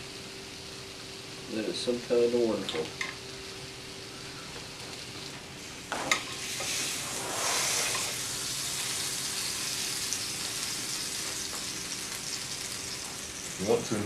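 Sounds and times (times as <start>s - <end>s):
burger patties sizzling: 0.0s - 14.0s.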